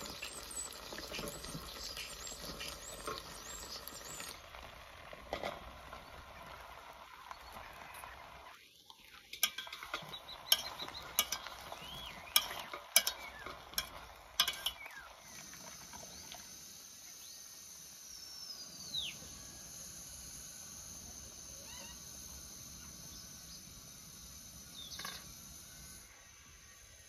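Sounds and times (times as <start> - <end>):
faint outdoor background: 0.0 - 27.0.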